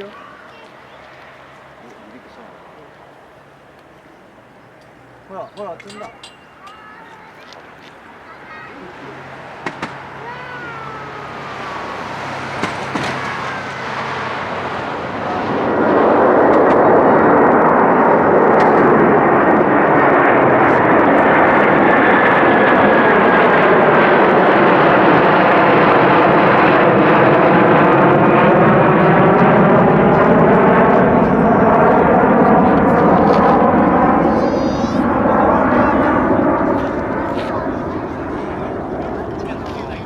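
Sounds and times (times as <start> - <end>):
jet engine roar: 0.0 - 40.0
jet engine whine: 0.0 - 40.0.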